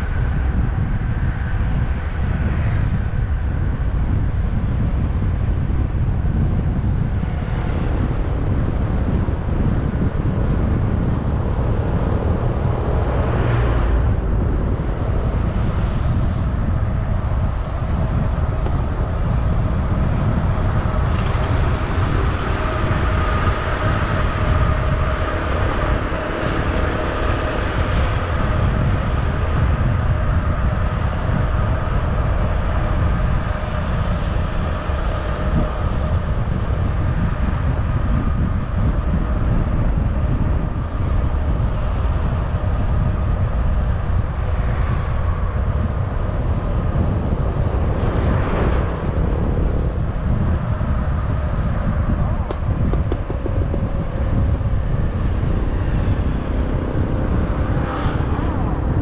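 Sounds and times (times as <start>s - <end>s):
vehicle road rumble: 0.0s - 59.0s.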